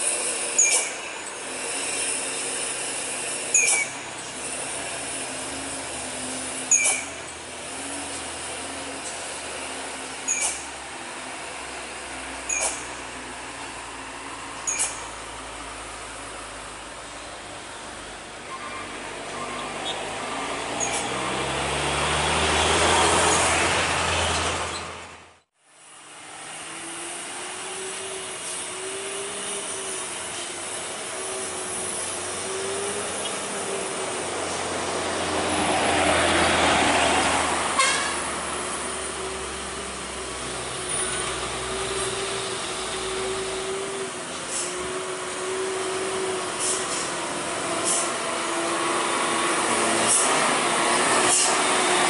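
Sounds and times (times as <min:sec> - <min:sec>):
diesel trucks driving past: 0:00.0 - 0:52.0.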